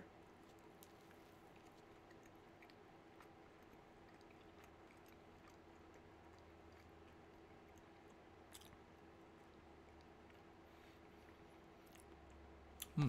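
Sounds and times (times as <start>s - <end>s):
faint hum: 0.0s - 13.0s
person chewing quietly: 0.0s - 13.0s.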